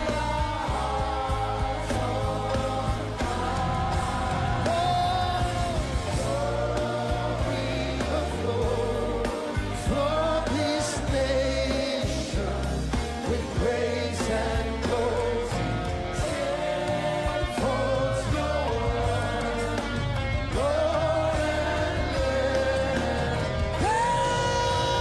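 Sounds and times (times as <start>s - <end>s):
band with bass and drums: 0.0s - 25.0s
voices singing gospel: 0.0s - 25.0s.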